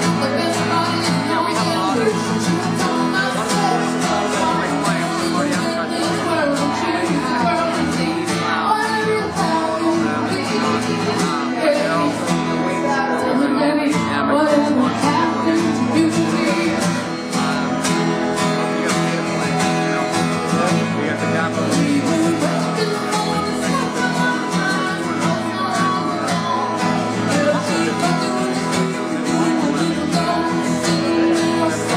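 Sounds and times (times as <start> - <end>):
woman singing: 0.0 - 17.5, 21.7 - 31.9
acoustic guitar strumming: 0.0 - 31.9.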